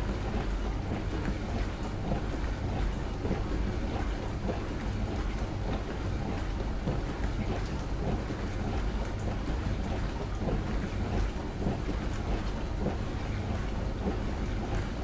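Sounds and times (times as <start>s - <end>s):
dishwasher pump humming: 0.0s - 15.0s
water sloshing in dishwasher: 0.1s - 15.0s.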